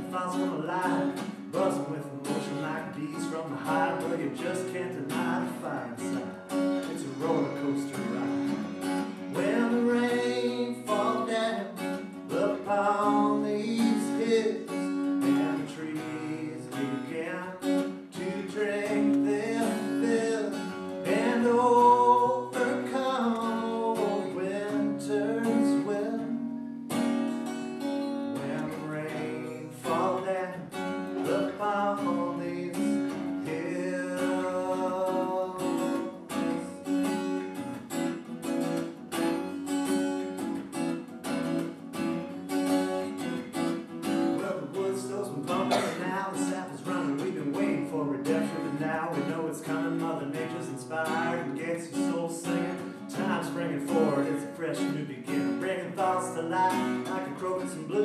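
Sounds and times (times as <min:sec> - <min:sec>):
man singing: 0:00.0 - 0:26.6, 0:28.3 - 0:37.4, 0:44.0 - 0:58.0
acoustic guitar strumming: 0:00.0 - 0:58.0.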